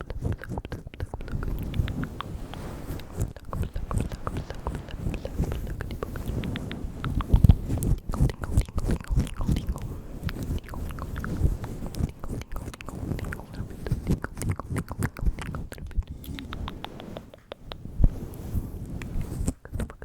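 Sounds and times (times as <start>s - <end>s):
lip and tongue clicks: 0.0s - 17.9s, 19.4s - 20.0s.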